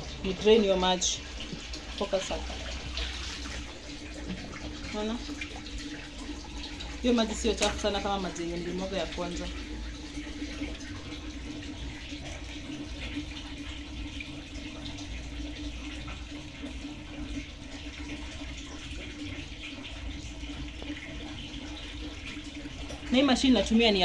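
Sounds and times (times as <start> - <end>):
faint steady hum: 0.0 - 24.0
water draining from washing machine: 0.0 - 24.0.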